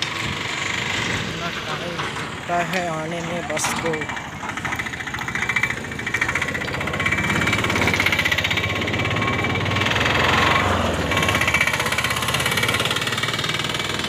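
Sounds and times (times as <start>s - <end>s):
vehicle engine throbbing: 0.0s - 14.0s.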